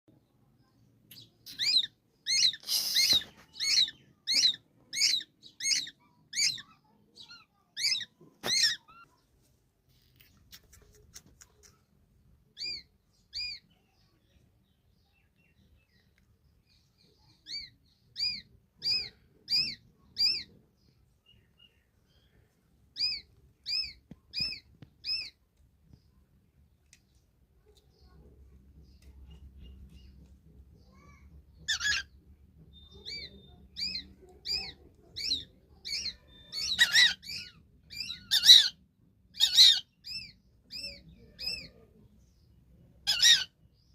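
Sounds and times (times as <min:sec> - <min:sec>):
baby bird chirping: 0:00.6 - 0:09.3, 0:10.1 - 0:14.4, 0:15.0 - 0:26.2, 0:27.7 - 0:43.9.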